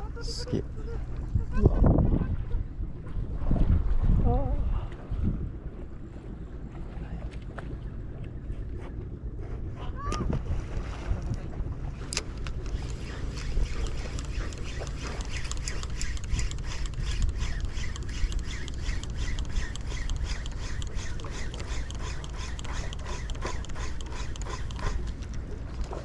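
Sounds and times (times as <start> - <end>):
wind buffeting microphone: 0.0 - 25.4.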